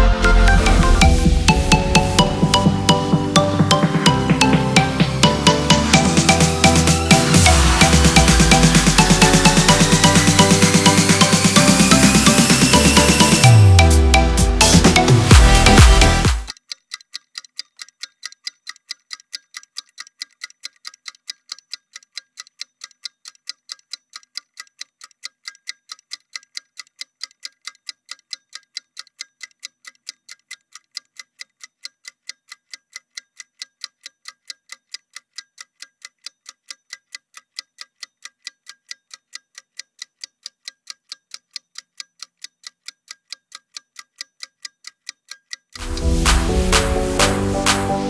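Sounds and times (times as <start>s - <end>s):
clock ticking: 0.0s - 48.0s.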